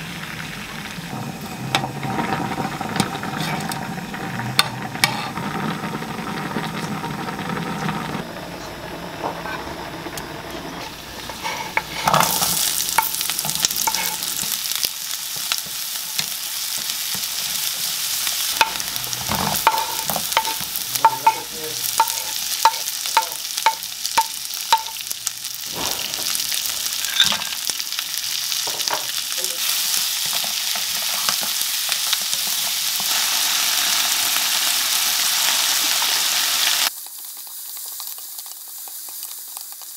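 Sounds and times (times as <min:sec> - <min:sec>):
onion and garlic sizzling in oil: 0:00.0 - 0:39.9.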